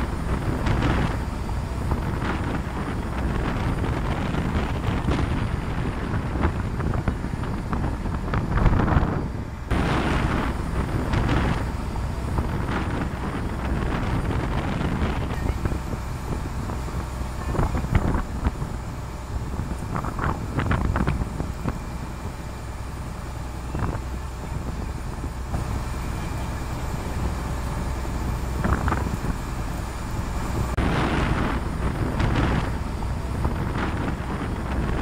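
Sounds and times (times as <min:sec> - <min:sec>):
choppy sea water: 0:00.0 - 0:35.0
low rumble: 0:00.0 - 0:35.0
wind on microphone: 0:00.0 - 0:35.0.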